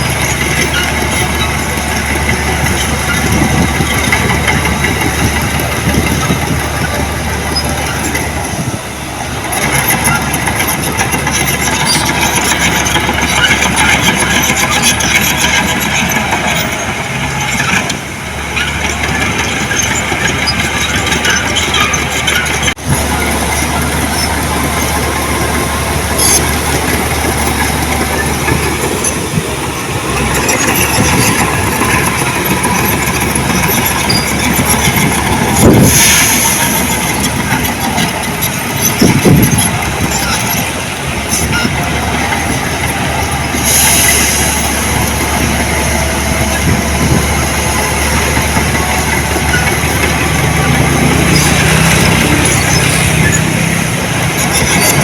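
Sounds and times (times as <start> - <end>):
heavy diesel machine running: 0.0 - 55.0.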